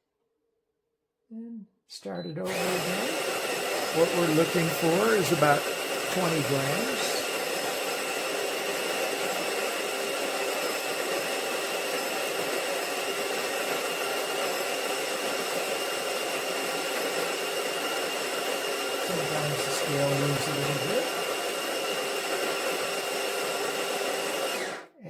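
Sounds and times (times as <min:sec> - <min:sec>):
coffee grinder motor whine: 0:02.5 - 0:25.0.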